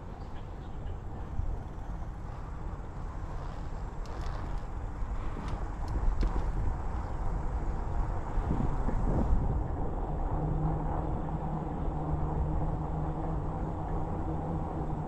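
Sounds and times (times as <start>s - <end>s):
tires rolling on road: 0.0s - 15.0s
wind rumble on microphone: 0.0s - 15.0s.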